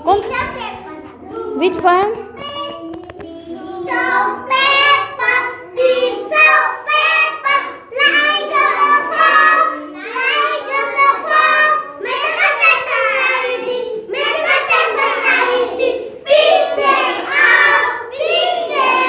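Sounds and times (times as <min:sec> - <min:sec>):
children singing together: 0:02.2 - 0:19.0.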